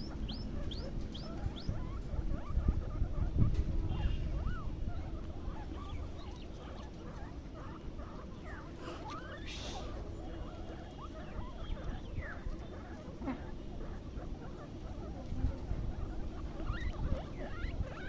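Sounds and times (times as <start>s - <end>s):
low background rumble: 0.0s - 18.0s
puppies squeaking and whimpering: 0.0s - 18.0s.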